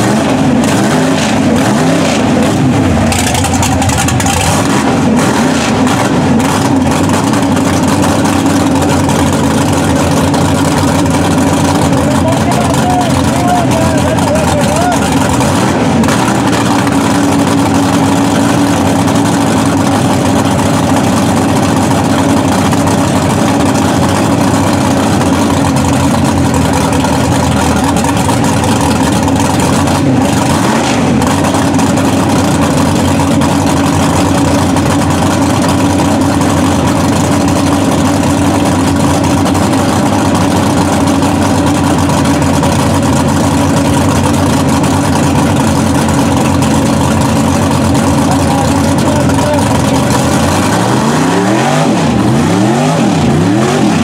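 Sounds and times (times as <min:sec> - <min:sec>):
loud truck engine running: 0:00.0 - 0:54.0.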